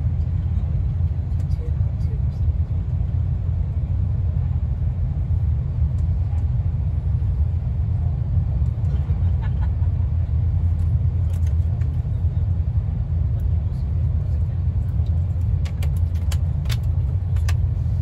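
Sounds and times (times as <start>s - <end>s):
train rumbling inside carriage: 0.0s - 18.0s.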